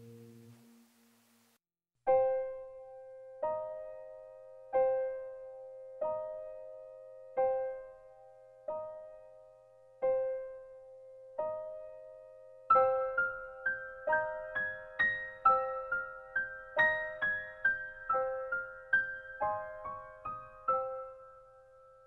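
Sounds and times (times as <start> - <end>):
slow piano music: 0.0 - 1.0, 2.1 - 22.0.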